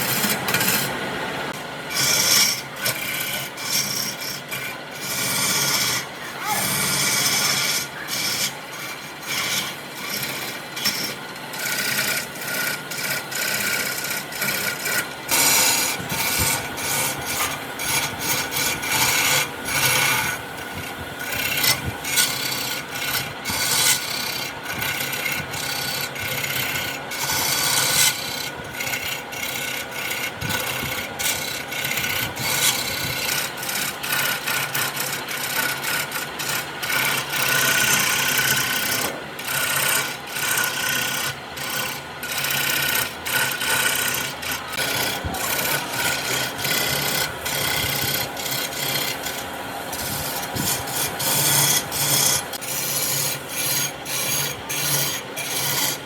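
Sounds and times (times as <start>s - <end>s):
scraping and rubbing wood: 1.9s - 56.0s.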